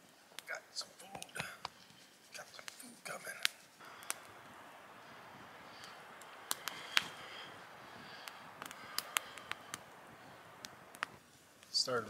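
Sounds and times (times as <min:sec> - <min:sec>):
campfire hissing: 0:00.0 - 0:12.0
fire crackles and pops: 0:00.0 - 0:12.0.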